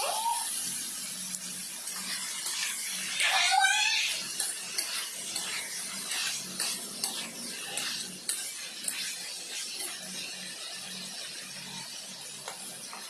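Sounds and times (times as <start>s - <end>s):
pork sizzling in a wok: 0.0s - 13.0s
spatula scraping a pan: 1.8s - 13.0s.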